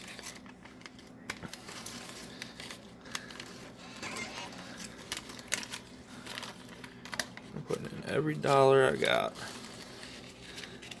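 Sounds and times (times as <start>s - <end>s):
paper money crinkling: 0.0s - 11.0s.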